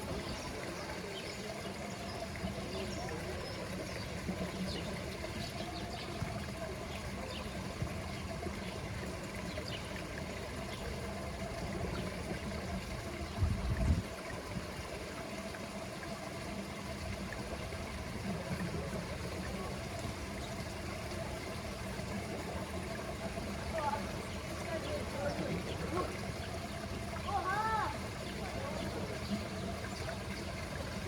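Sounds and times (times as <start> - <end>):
water trickling into a pool: 0.0 - 31.0.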